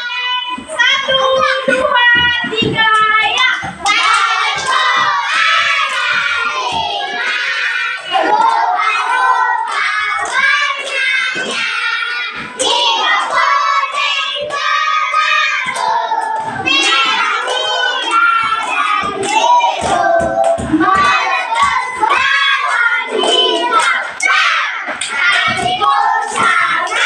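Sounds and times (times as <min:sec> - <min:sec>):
children singing together: 0:00.0 - 0:27.0
hands clapping: 0:00.6 - 0:27.0.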